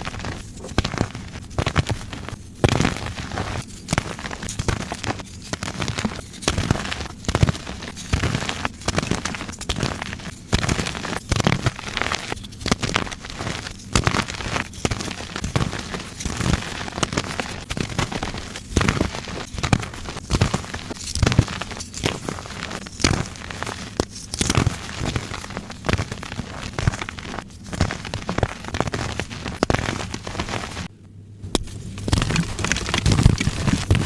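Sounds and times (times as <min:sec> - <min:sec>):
chalk crumbling and crackling: 0:00.0 - 0:30.9, 0:31.5 - 0:34.0.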